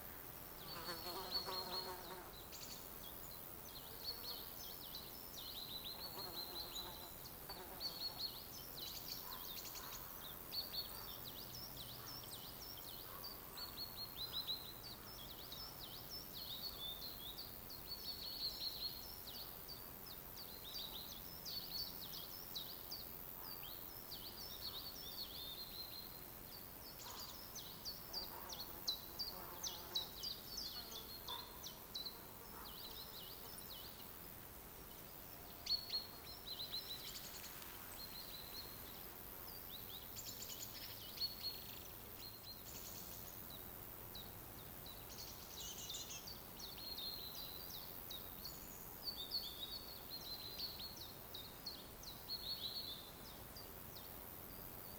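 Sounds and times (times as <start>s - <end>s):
faint steady hiss: 0.0s - 54.9s
small birds chirping: 0.0s - 54.9s.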